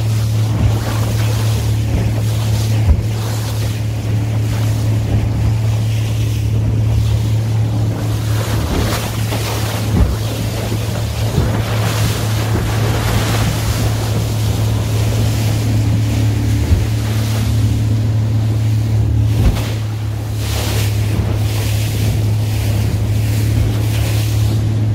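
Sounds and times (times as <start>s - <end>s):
motorboat engine humming: 0.0s - 24.9s
water rushing: 0.0s - 24.9s
wind gusts on microphone: 0.0s - 24.9s.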